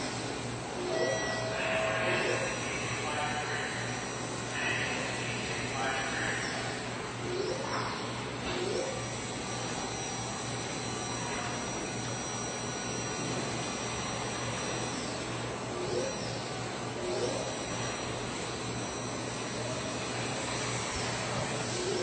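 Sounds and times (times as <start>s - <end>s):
high machine whine: 0.0s - 22.0s
low machine hum: 0.0s - 22.0s.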